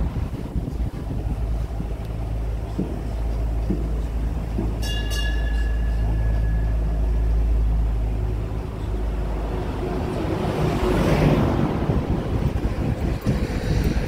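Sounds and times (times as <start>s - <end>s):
road train engine rumbling: 0.0s - 14.0s
rushing noise: 0.0s - 14.0s.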